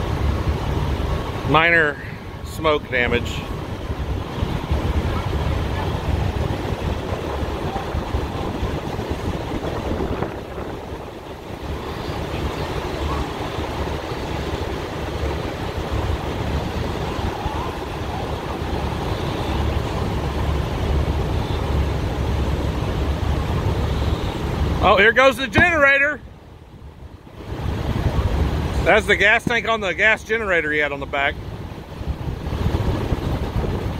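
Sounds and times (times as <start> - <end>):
fire burning with rushing rumble: 0.0 - 33.9
wind buffeting microphone: 2.1 - 25.8, 26.6 - 29.7, 31.4 - 33.9.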